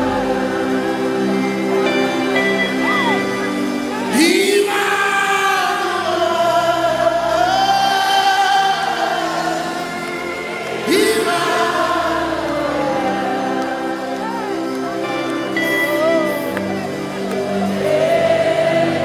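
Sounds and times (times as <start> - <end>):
group of voices singing: 0.0 - 19.0.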